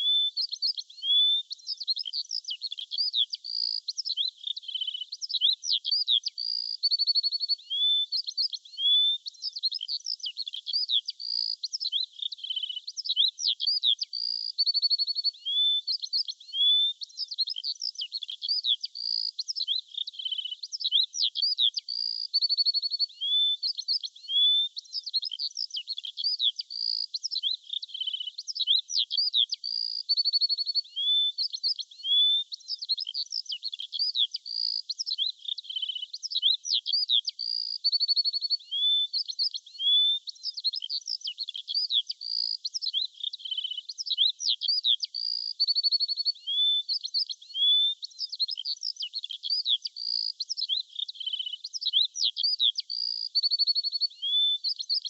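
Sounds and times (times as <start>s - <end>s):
birdsong chirps and whistles: 0.0s - 55.0s.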